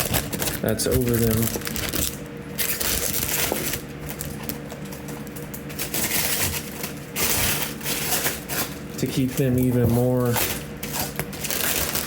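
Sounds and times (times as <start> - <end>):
plastic wrap crinkling: 0.0 - 12.0.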